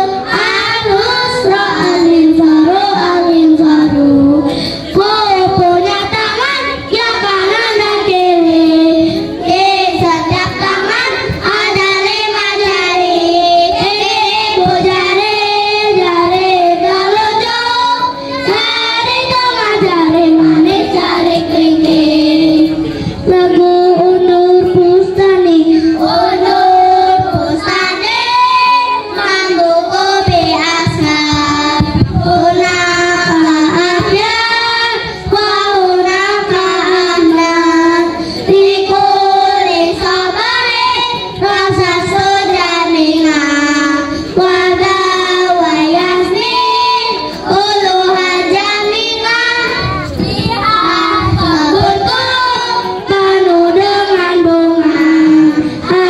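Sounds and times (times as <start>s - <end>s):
children singing in unison: 0.0s - 56.0s.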